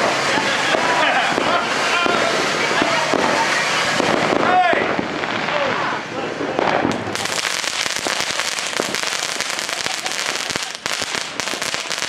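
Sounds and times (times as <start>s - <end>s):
firework hissing and crackling: 0.0s - 12.0s.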